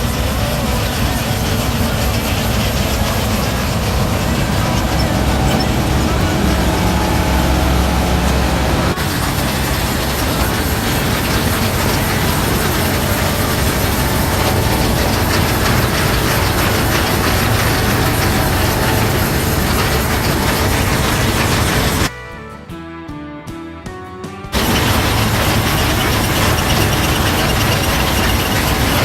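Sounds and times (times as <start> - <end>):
harvester engine running: 0.0 - 22.1, 24.5 - 29.0
mechanical clatter and rattle: 0.0 - 22.1, 24.6 - 29.0.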